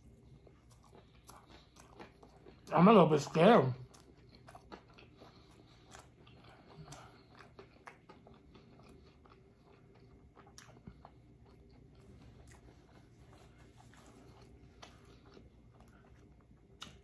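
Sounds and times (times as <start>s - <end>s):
chewing crispy food: 0.0s - 17.0s.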